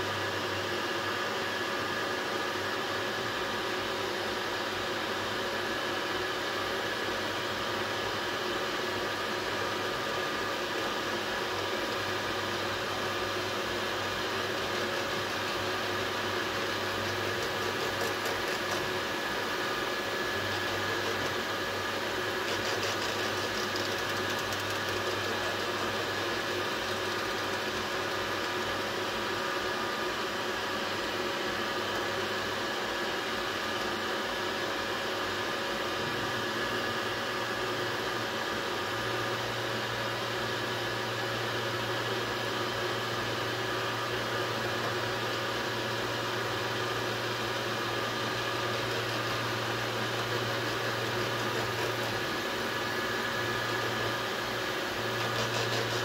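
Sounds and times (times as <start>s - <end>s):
three-d printer whirring: 0.0s - 56.0s.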